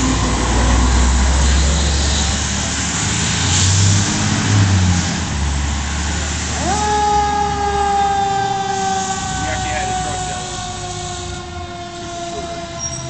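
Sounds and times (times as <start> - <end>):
fire engine diesel rumbling: 0.0 - 13.0.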